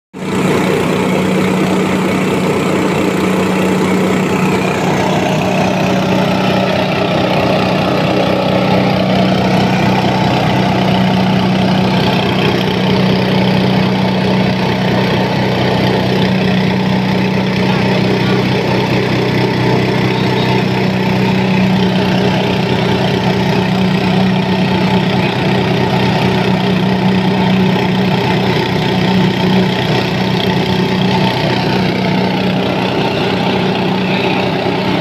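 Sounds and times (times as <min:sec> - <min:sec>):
grinding machine hum: 0:00.2 - 0:35.0.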